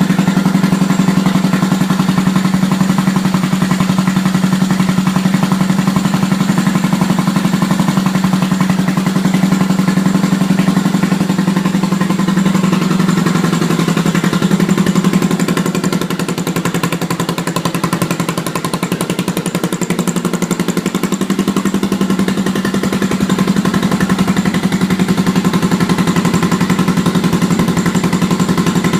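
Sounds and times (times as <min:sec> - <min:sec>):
motorcycle engine idling: 0:00.0 - 0:28.9.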